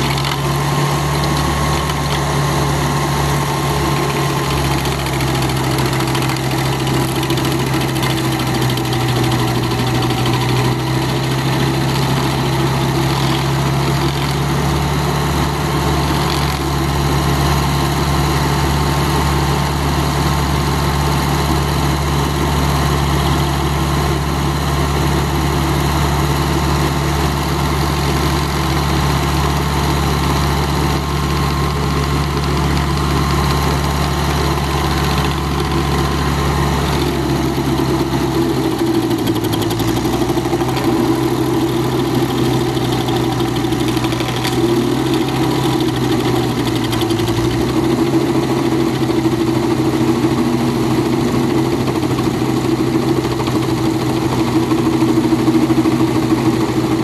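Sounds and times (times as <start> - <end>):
cutter wheel grinding stump: 0.0 - 57.0
stump grinder engine running: 0.0 - 57.0.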